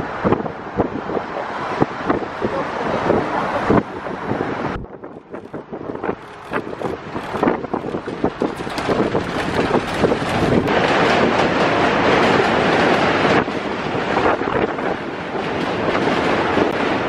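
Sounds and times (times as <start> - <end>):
rushing wind and traffic rumble: 0.0 - 17.0.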